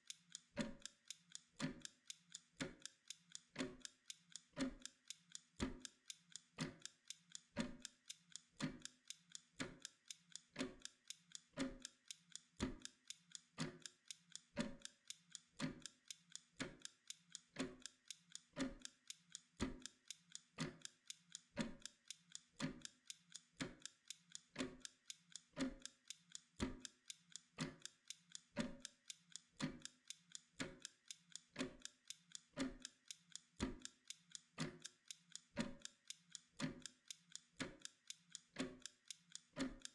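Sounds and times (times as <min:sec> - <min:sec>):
kitchen timer ticking: 0:00.0 - 0:39.9.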